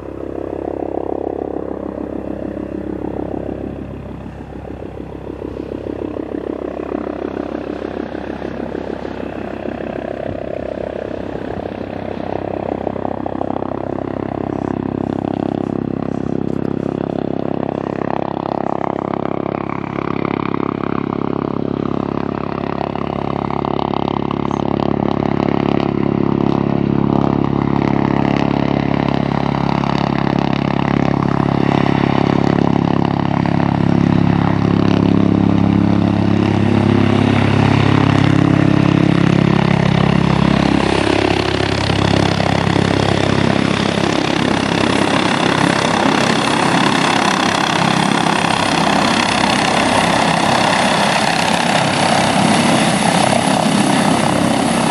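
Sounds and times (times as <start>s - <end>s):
helicopter rotor and turbine drone: 0.0s - 54.9s.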